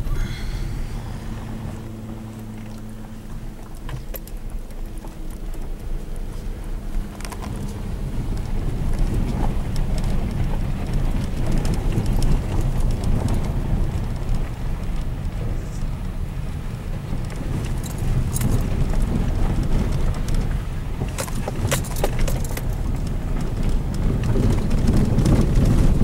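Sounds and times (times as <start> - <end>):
car engine hum: 0.0 - 26.0
tyre rumble on dirt road: 0.0 - 26.0.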